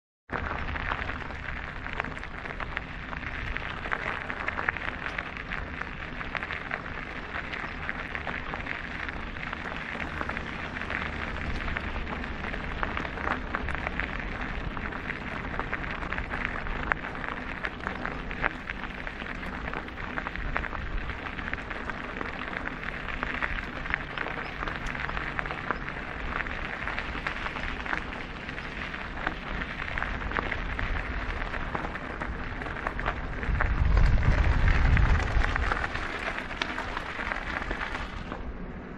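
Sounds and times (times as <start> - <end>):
bike tyres rolling over gravel: 0.3 - 38.9.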